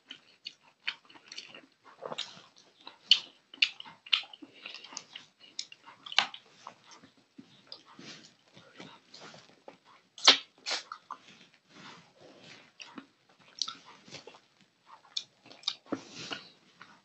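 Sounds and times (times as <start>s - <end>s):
man chewing and smacking lips: 0.0s - 17.0s.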